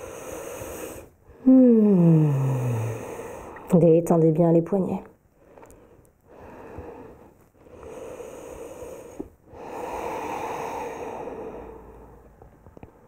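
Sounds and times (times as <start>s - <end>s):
woman breathing deeply: 0.0s - 3.7s, 5.4s - 12.4s.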